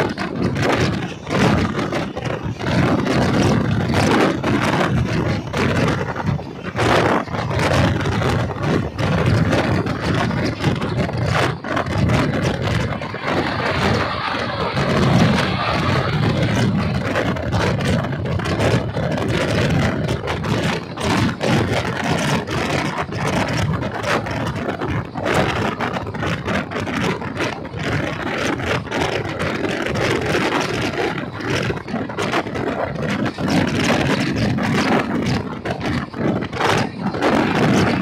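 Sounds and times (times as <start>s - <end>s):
train coach rumble: 0.0s - 38.0s
wheels clacking over rail joints: 0.0s - 38.0s.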